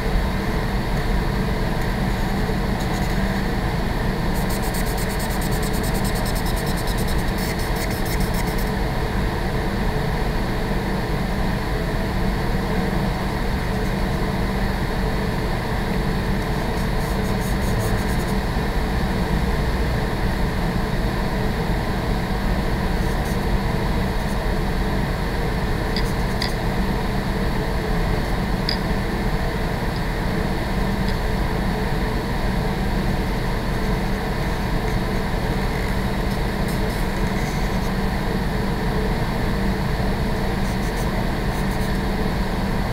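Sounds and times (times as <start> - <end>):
ventilation system rushing hum: 0.0 - 42.9.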